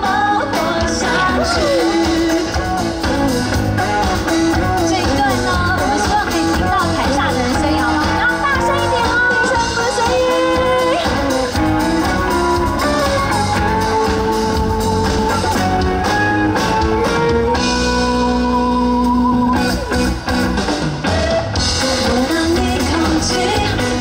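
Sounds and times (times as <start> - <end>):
drums: 0.0 - 24.0
guitar: 0.0 - 24.0
sliding lead melody: 0.0 - 24.0.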